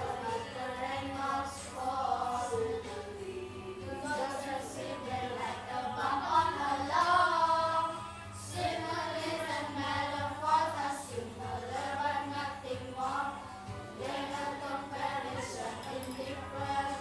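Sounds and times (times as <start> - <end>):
children singing: 0.0 - 17.0.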